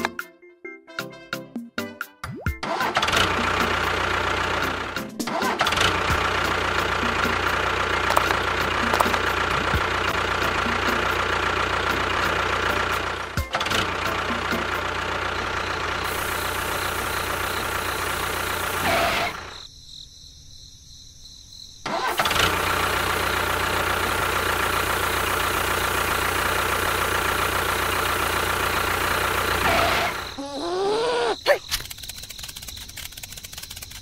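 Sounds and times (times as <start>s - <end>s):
model tractor engine running: 2.7s - 19.6s, 21.9s - 30.4s, 31.7s - 34.0s.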